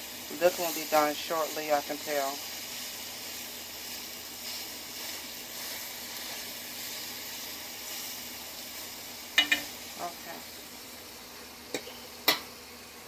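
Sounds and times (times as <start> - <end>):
chicken sizzling in grill pan: 0.0 - 13.0.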